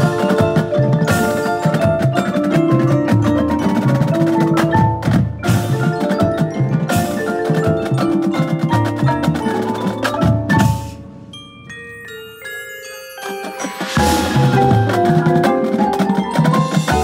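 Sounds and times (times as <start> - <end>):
marching percussion ensemble: 0.0 - 17.0
ringing mallet notes: 0.0 - 17.0.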